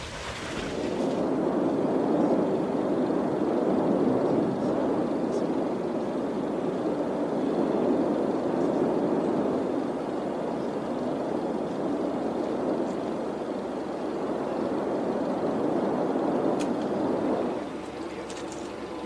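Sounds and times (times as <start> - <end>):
volcano low rushing noise: 0.0 - 19.0.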